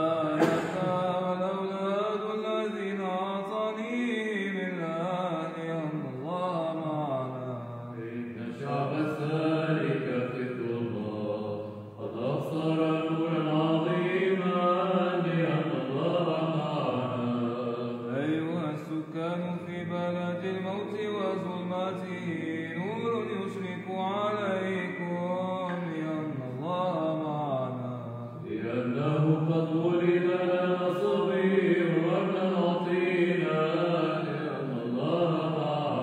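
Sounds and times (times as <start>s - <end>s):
man chanting slow melody: 0.0s - 36.0s.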